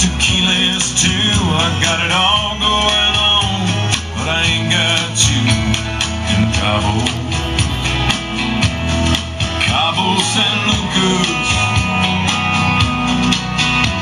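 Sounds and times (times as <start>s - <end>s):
country song with singer and guitar: 0.0s - 14.0s.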